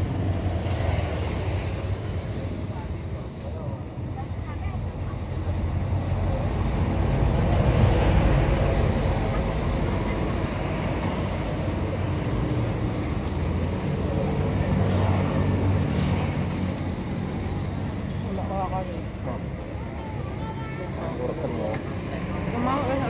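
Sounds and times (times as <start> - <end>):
traffic passing close by: 0.0 - 23.0
faint voices: 0.8 - 23.0.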